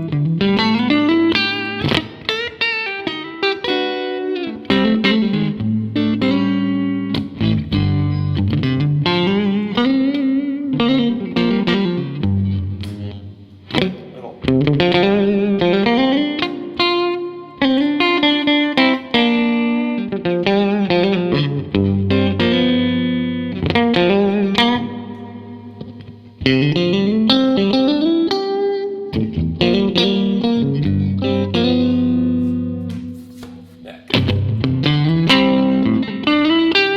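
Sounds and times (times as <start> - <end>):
electric guitar playing: 0.0 - 36.9.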